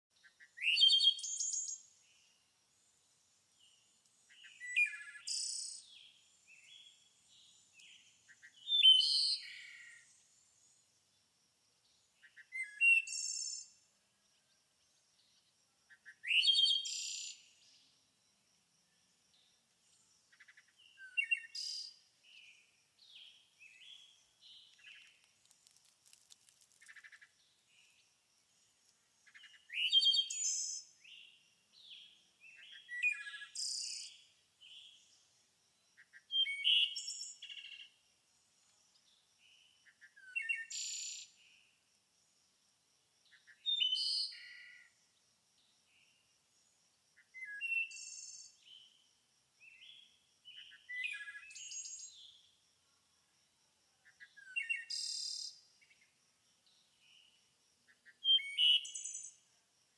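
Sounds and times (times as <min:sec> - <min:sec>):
songbirds singing: 0:00.1 - 0:41.8, 0:43.2 - 0:49.0, 0:49.6 - 0:52.6, 0:54.0 - 0:59.5.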